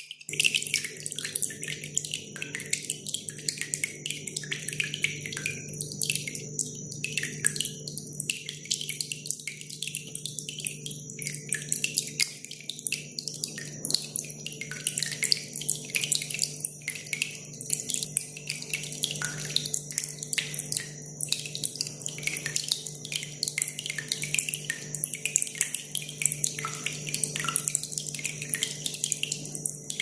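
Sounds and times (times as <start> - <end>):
water dripping: 0.0 - 30.0.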